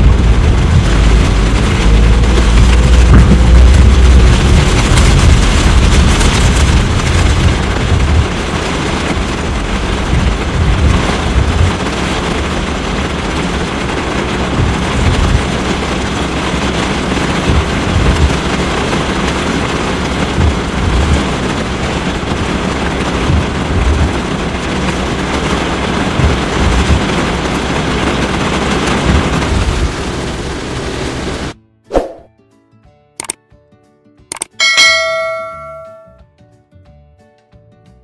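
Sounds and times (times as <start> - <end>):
heavy rain on car roof: 0.0 - 31.6.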